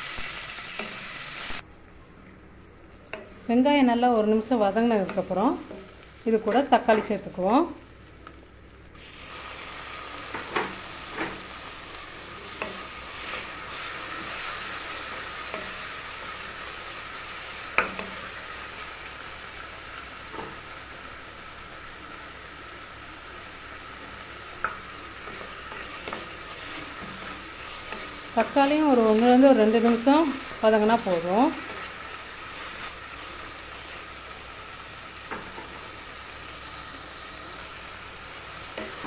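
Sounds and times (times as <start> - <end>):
vegetables sizzling in hot oil: 0.0 - 1.7, 2.8 - 39.0.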